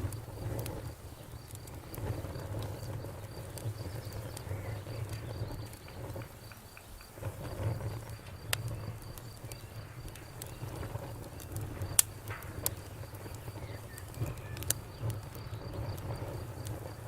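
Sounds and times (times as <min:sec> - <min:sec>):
campfire burning with crackles: 0:00.0 - 0:17.0.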